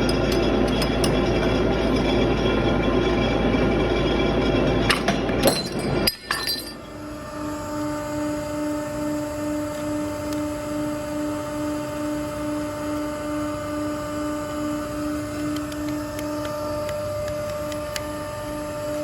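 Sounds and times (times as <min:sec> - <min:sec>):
pulsing machine hum: 0:00.0 - 0:19.0.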